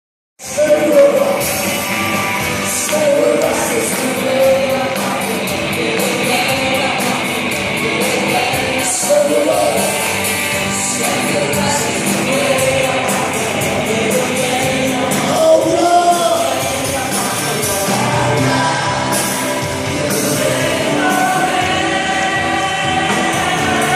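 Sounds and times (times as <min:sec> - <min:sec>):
song with singing: 0:00.4 - 0:23.9.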